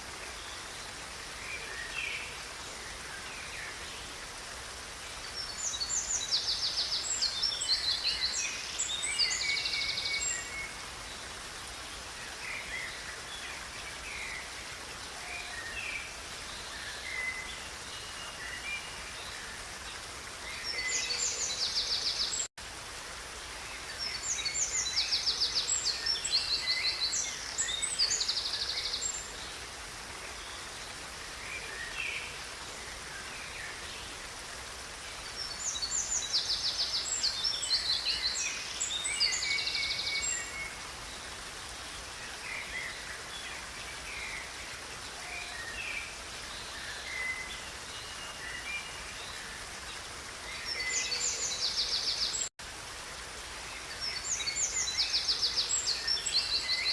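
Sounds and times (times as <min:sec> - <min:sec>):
river water rushing: 0:00.0 - 0:56.9.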